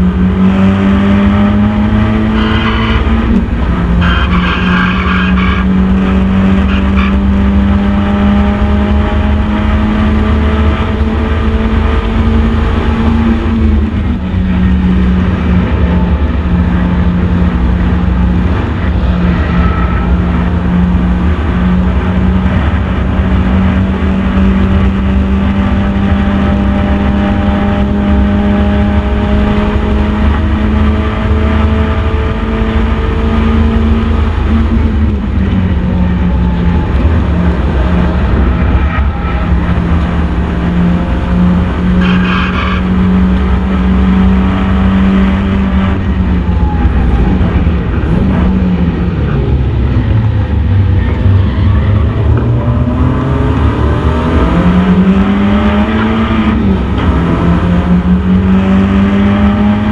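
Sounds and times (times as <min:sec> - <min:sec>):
race car engine at high revs: 0:00.0 - 0:59.9
road rumble: 0:00.0 - 0:59.9.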